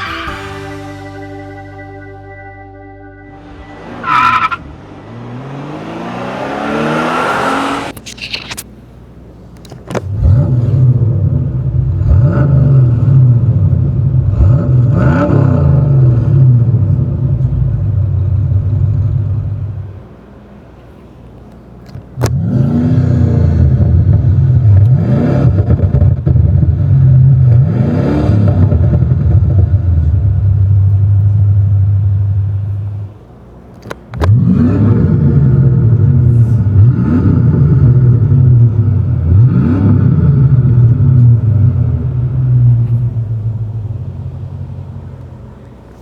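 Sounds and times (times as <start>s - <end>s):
car engine revving: 3.2s - 8.1s, 9.8s - 20.0s, 22.0s - 46.0s.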